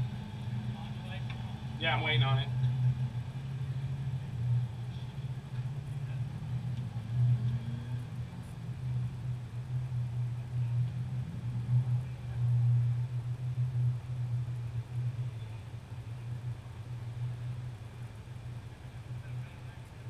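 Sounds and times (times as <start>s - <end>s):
race car engine idling: 0.0s - 20.0s.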